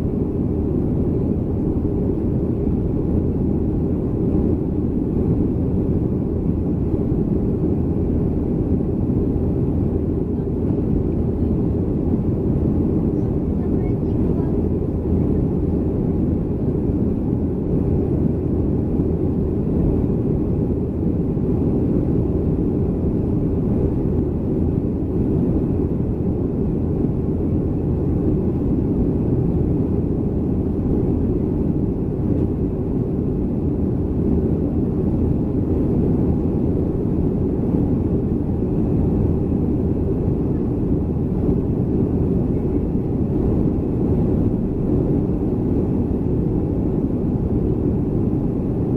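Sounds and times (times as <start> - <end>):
airflow over fuselage: 0.0 - 48.9
jet engines rumbling: 0.0 - 48.9.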